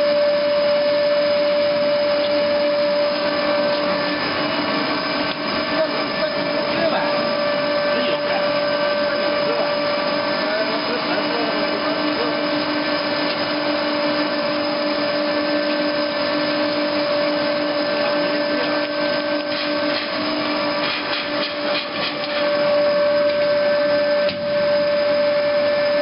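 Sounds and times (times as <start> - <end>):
high machine whine: 0.0 - 26.0
machinery motor hum: 0.0 - 26.0.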